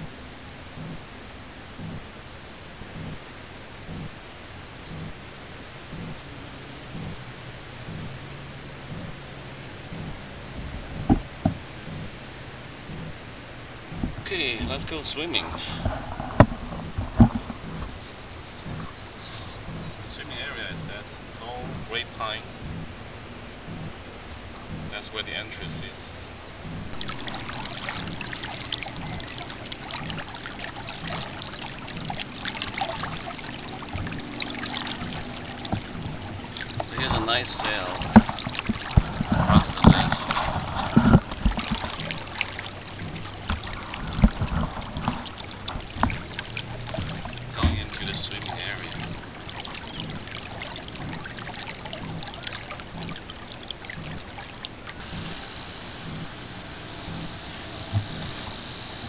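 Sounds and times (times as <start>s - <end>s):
water lapping against boat hull: 0.0s - 59.0s.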